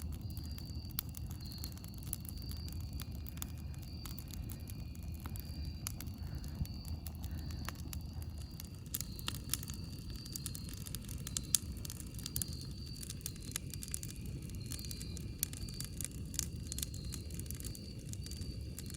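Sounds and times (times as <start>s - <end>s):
campfire crackling: 0.0s - 18.9s.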